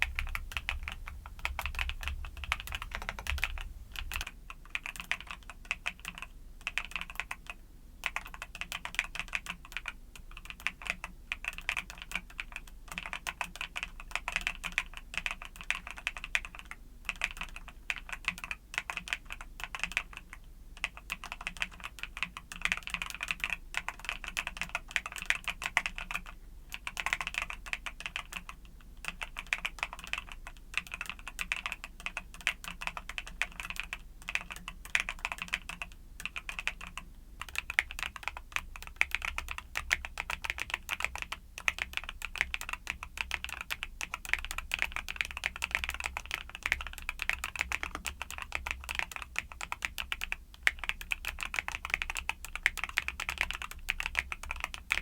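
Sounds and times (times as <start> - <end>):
mechanical keyboard typing: 0.0 - 55.0.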